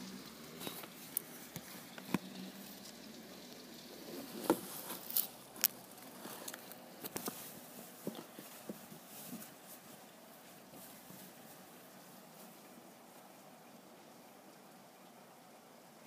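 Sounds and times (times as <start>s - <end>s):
raindrops tapping close by: 0.0s - 15.6s
light rain falling: 0.0s - 16.0s.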